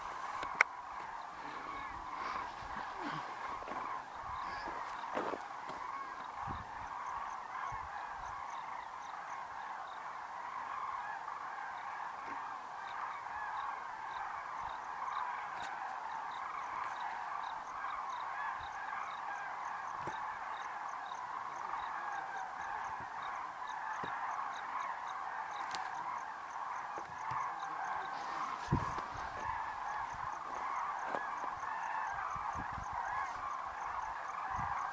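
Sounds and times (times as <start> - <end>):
cranes trumpeting in flight: 0.0 - 34.9.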